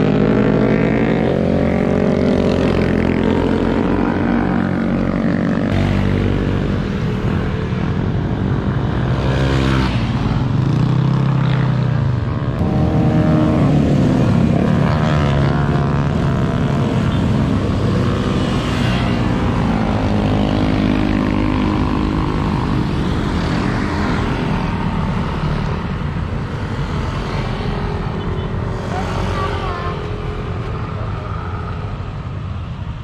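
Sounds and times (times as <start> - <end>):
motorcycles riding past: 0.0 - 32.1.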